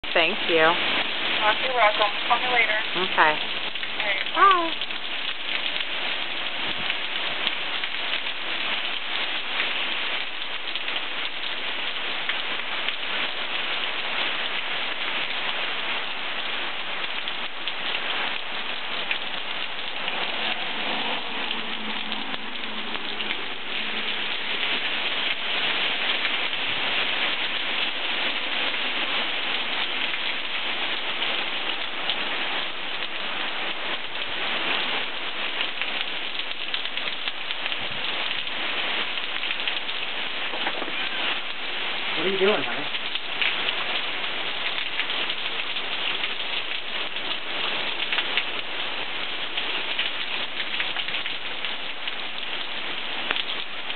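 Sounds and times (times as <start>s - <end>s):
heavy rain pouring: 0.0s - 53.9s
car passing on wet road: 0.1s - 53.9s.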